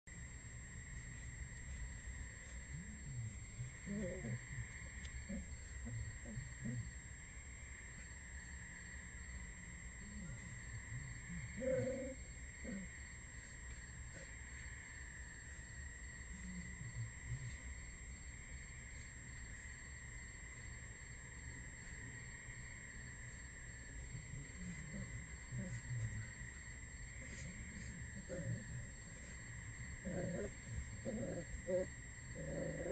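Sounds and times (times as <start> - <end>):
crickets chirping: 0.1 - 32.9
low sounds from wolf pups: 0.9 - 32.9.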